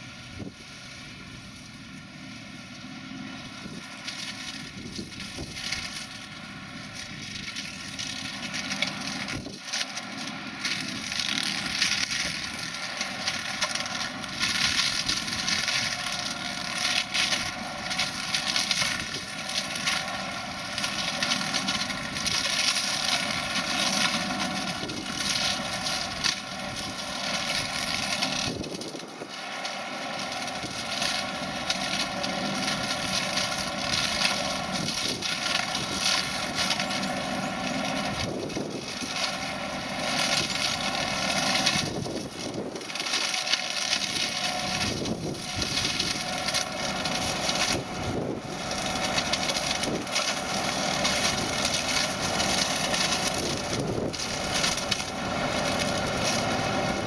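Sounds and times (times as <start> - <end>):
hedge cutter shredding branches: 0.0 - 57.0
tractor running: 0.0 - 57.0.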